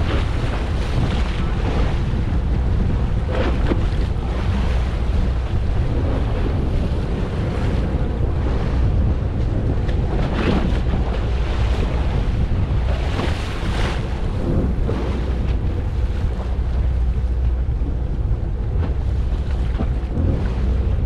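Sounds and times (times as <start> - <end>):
low rumble of boat and water: 0.0 - 21.0
wind buffeting microphone: 0.0 - 21.0.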